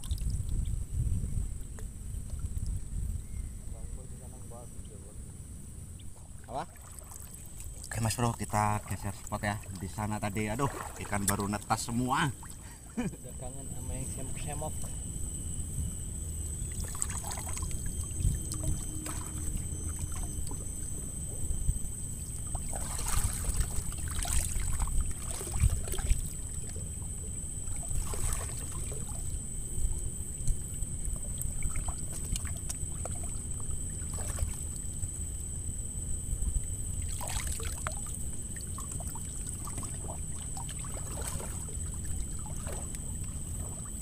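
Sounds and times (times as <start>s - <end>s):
water splashing and trickling: 0.0s - 0.7s, 6.3s - 15.0s, 15.8s - 35.4s, 36.5s - 44.0s
steady low rumble: 0.0s - 44.0s
thin high whine: 0.0s - 44.0s.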